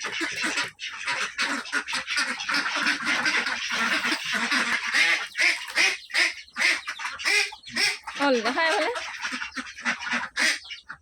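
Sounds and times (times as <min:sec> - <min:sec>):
waterfowl quacking and honking: 0:00.0 - 0:11.0.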